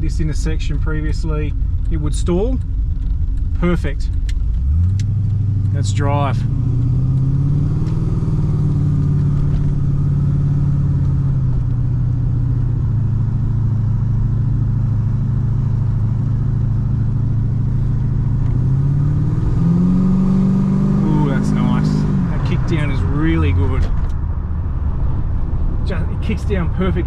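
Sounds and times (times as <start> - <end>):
car engine from inside cabin: 0.0 - 27.0.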